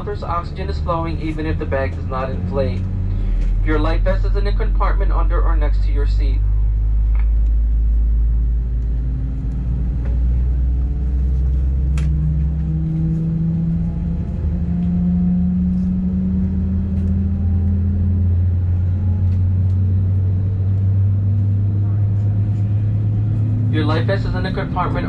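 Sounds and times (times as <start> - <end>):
airplane cabin engine drone: 0.0 - 25.0.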